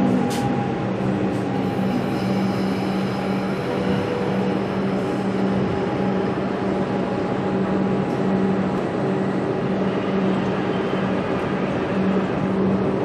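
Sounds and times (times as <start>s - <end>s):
pulsing low hum: 0.0s - 13.0s
train rumble: 0.0s - 13.0s.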